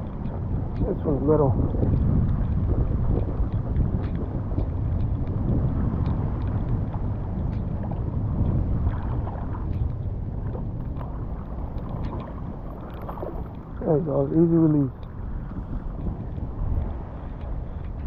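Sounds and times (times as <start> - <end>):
faint ticks: 0.0 - 18.0
wind on microphone: 0.0 - 18.0.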